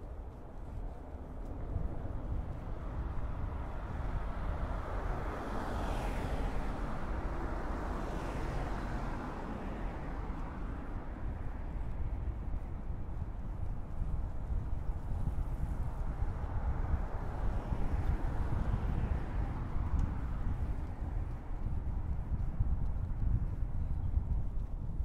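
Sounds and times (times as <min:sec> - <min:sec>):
low traffic rumble: 0:00.0 - 0:25.0
vehicles passing by: 0:00.0 - 0:25.0.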